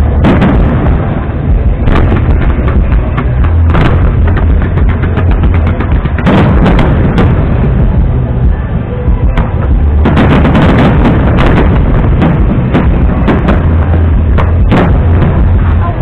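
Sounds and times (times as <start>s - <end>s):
fireworks booming: 0.0s - 16.0s
fireworks crackling and popping: 0.0s - 16.0s.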